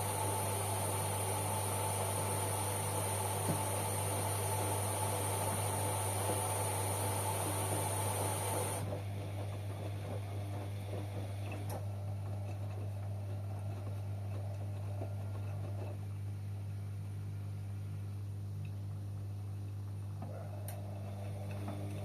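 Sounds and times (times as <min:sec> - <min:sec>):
washing machine hum: 0:00.0 - 0:22.0.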